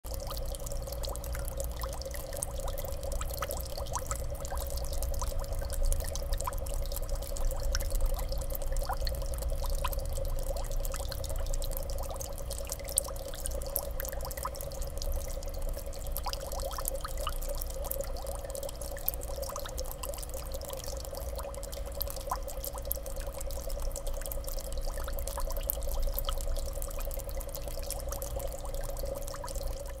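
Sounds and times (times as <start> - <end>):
aquarium water trickling: 0.0 - 30.0.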